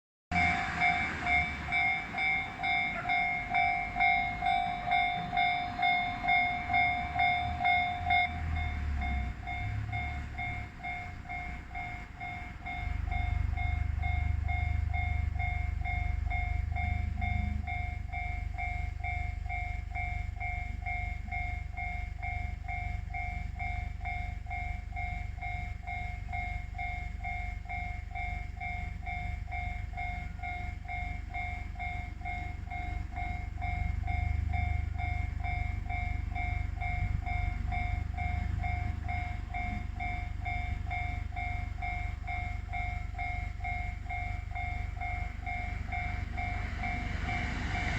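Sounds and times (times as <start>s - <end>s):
level-crossing warning bell ringing: 0.3s - 47.9s
passing train rumble: 0.3s - 47.9s.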